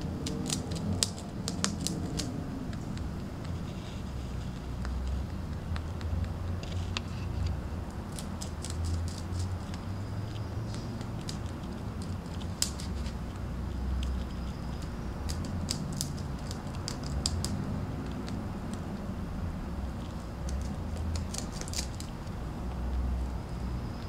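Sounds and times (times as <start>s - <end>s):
rabbit gnawing wood: 0.0s - 24.0s.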